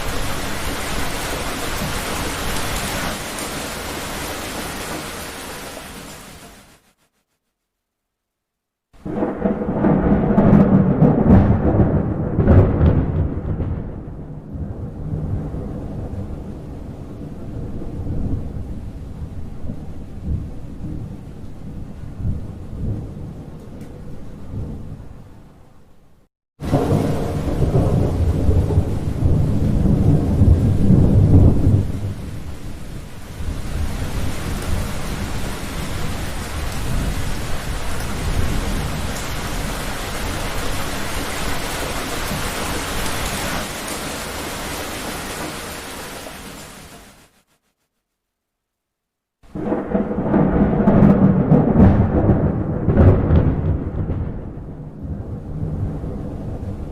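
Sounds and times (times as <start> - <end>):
thunder rumbling: 0.0 - 6.3, 9.0 - 25.6, 26.6 - 45.9, 49.5 - 56.9
steady rain: 0.0 - 7.5, 9.0 - 25.5, 26.6 - 47.8, 49.4 - 56.9.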